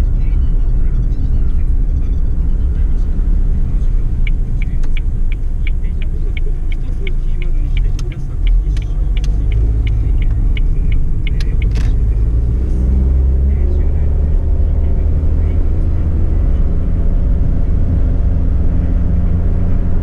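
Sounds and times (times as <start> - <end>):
car engine and road rumble: 0.0 - 20.0
turn signal ticking: 0.0 - 20.0.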